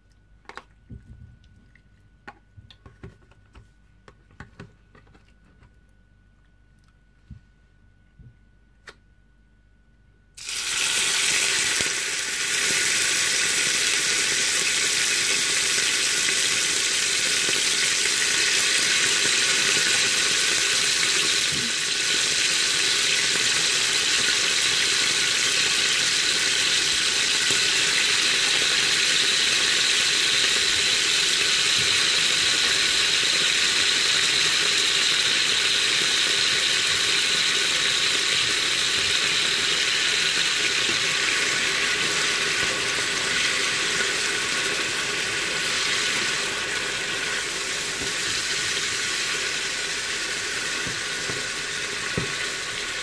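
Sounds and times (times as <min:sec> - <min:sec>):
meat sizzling in hot oil: 0:10.4 - 0:53.0.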